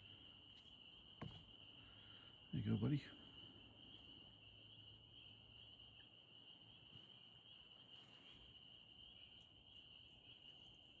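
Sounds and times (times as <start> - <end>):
frog chorus trilling: 0.0 - 11.0.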